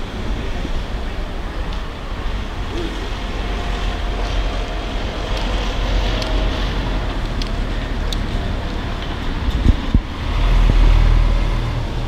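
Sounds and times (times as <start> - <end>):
distant vehicles: 0.0 - 12.0
wind buffeting microphone: 0.0 - 12.0.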